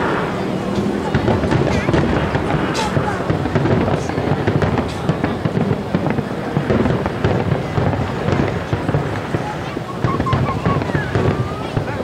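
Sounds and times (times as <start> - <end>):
firework crackles: 0.0 - 12.0
firework shells bursting: 0.0 - 12.0.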